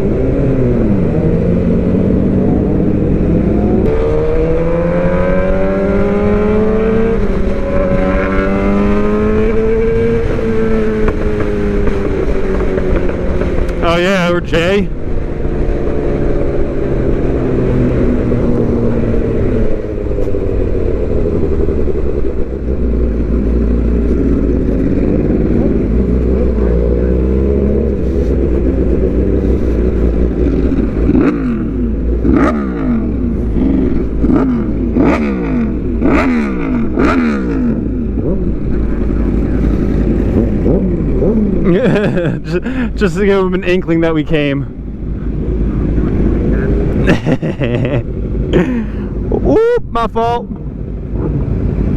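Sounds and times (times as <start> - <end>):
motorcycle engine revving: 0.0 - 49.4.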